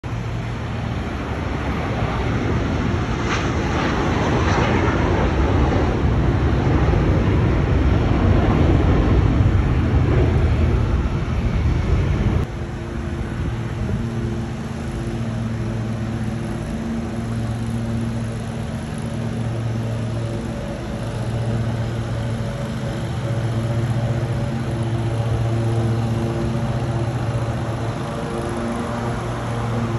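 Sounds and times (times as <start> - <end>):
lawn mower engine hum: 0.0 - 4.4, 5.1 - 29.9
airplane passing overhead: 0.0 - 29.9.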